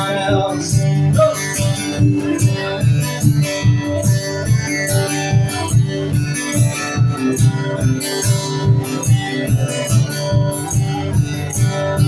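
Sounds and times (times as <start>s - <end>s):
guitar strummed: 0.0s - 12.0s.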